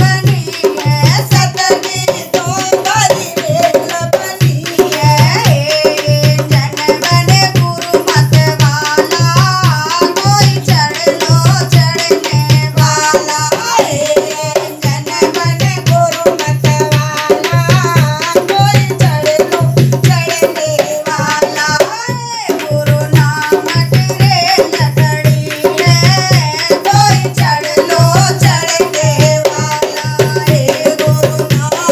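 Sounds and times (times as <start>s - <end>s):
women singing devotional song: 0.0s - 31.9s.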